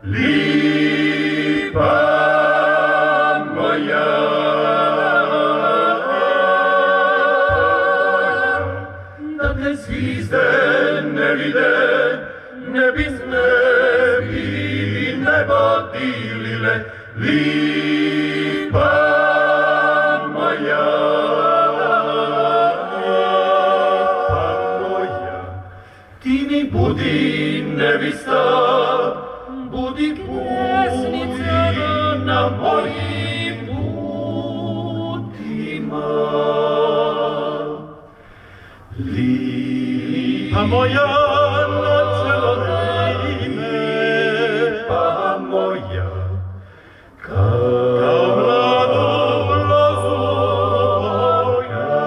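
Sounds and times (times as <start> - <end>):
men singing in close harmony: 0.0 - 38.0, 38.9 - 46.5, 47.1 - 52.0.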